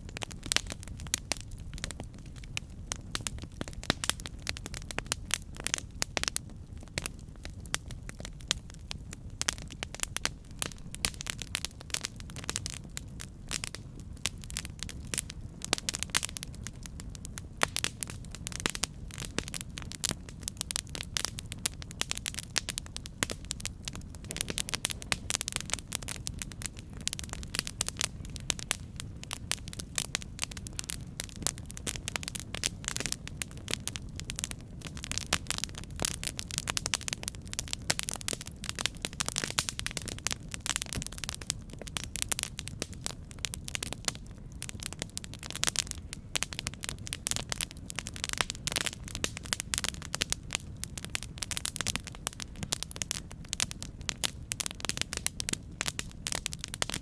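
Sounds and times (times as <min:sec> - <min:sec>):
campfire crackling and popping: 0:00.0 - 0:57.0
low rumble of burning fire: 0:00.0 - 0:57.0.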